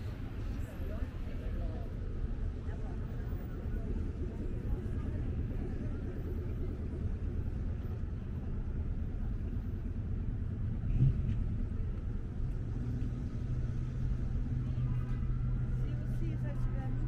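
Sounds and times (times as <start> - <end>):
engine hum: 0.0 - 17.0
street traffic rumble: 0.0 - 17.0.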